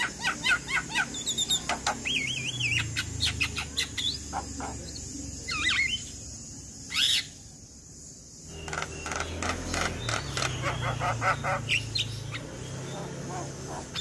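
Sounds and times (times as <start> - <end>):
myna bird calling: 0.0 - 7.6, 8.4 - 14.0.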